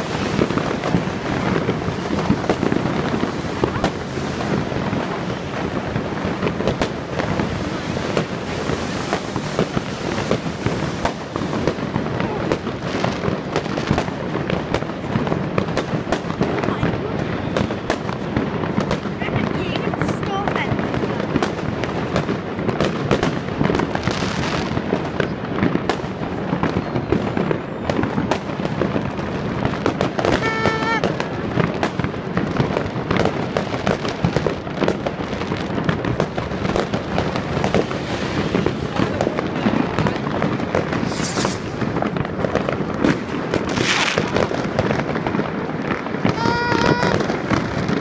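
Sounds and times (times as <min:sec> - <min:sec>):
fireworks and firecrackers crackling: 0:00.0 - 0:48.0.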